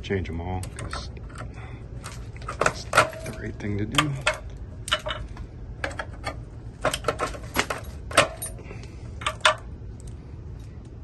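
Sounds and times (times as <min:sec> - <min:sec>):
metallic clicks of fuses pulled: 0:00.5 - 0:11.0.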